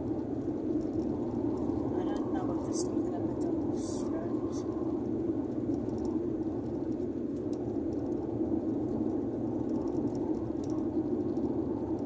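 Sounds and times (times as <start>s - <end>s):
tyres and engine rumbling: 0.0s - 12.0s.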